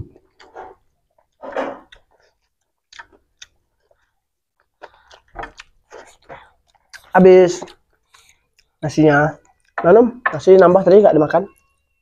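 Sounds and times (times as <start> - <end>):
chewing and wet mouth sounds: 0.1 - 9.8.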